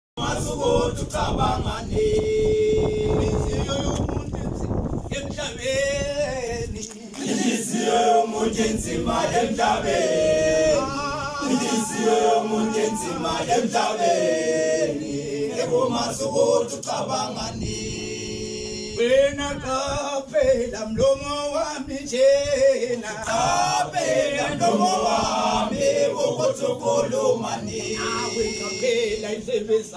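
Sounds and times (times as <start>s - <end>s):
men singing in chorus: 0.2s - 3.8s, 5.5s - 29.9s.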